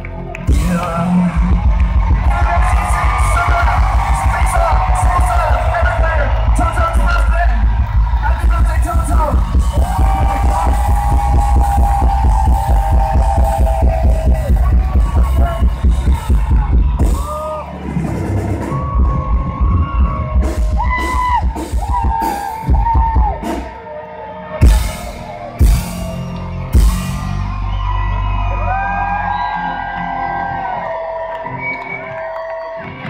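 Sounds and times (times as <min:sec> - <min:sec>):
drums and bass: 0:00.0 - 0:23.9, 0:24.6 - 0:33.0
full-band hits: 0:00.5 - 0:23.8, 0:24.6 - 0:28.1.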